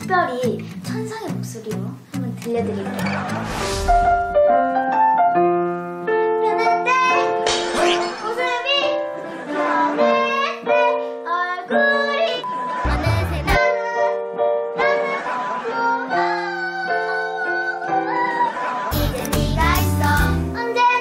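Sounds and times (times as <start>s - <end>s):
girl singing a pop song: 0.0s - 3.0s, 6.4s - 21.0s
instrumental backing music: 0.0s - 15.0s, 18.9s - 21.0s.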